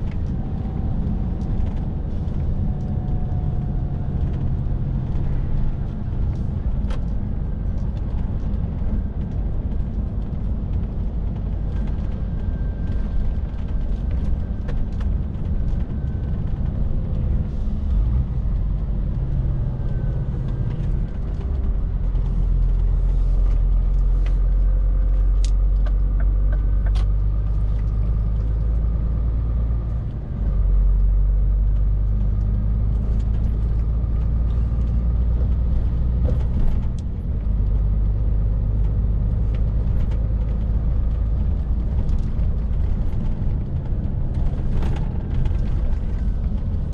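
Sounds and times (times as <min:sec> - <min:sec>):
lorry diesel engine droning: 0:00.0 - 0:46.9
road noise: 0:00.0 - 0:46.9.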